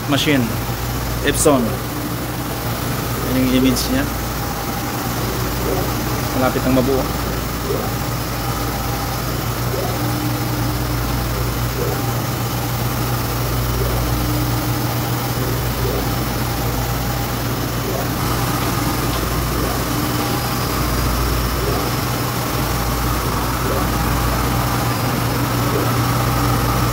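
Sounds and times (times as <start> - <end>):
printer machine hum: 0.0 - 26.9.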